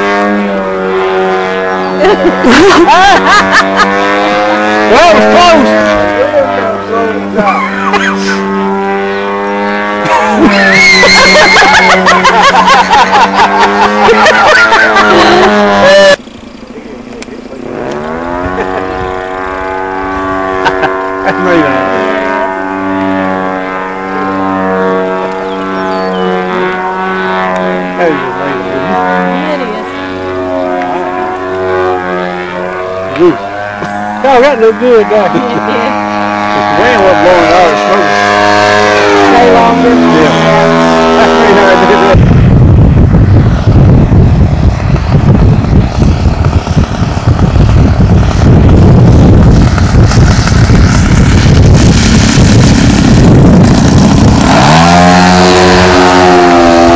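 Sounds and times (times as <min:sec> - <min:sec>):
model plane engine buzzing drone: 0:00.0 - 0:56.9
wind buffeting microphone: 0:08.5 - 0:34.8, 0:35.9 - 0:56.9.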